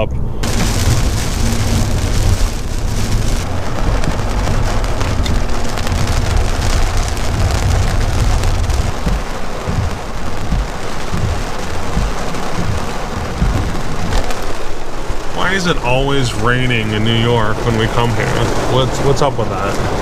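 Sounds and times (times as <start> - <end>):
deep low rumble: 0.0 - 19.0
rain on a street: 0.0 - 20.0.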